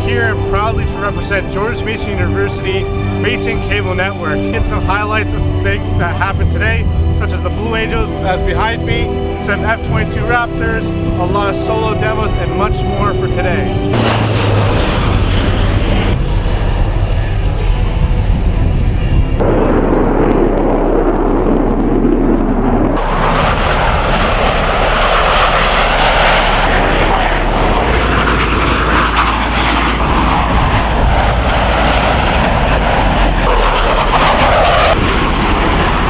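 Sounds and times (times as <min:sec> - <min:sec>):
jet engine roar: 0:00.0 - 0:36.0.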